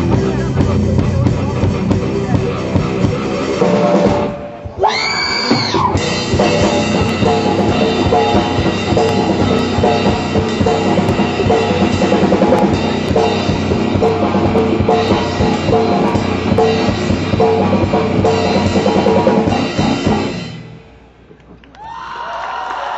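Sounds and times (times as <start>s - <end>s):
drum kit beat: 0.0s - 20.9s
rock band playing live: 0.0s - 21.0s.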